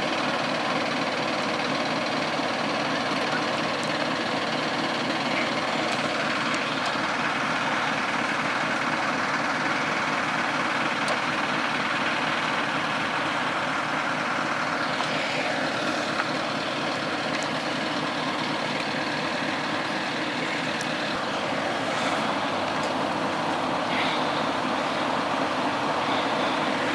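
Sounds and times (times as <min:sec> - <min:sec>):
road traffic with trucks: 0:00.0 - 0:26.9.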